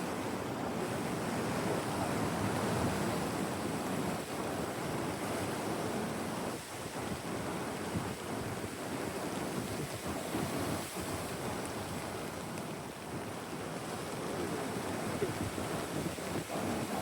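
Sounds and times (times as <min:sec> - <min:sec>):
steady rainfall hiss: 0:00.0 - 0:17.0
wind rumbling on microphone: 0:00.0 - 0:17.0.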